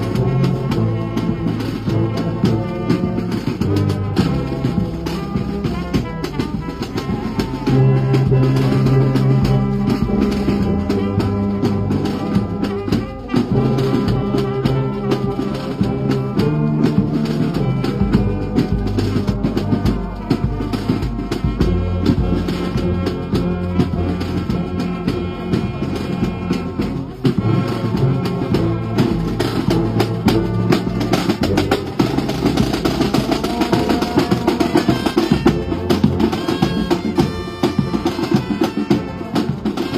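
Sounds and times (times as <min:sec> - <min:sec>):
low brass sustained notes: 0:00.0 - 0:39.9
steady drum beat: 0:00.0 - 0:39.9.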